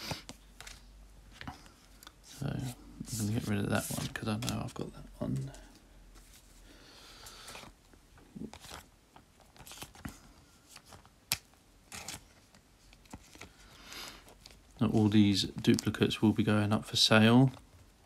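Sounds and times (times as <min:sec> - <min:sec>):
cards rustling: 0:00.0 - 0:06.6, 0:07.2 - 0:07.8, 0:08.4 - 0:17.9.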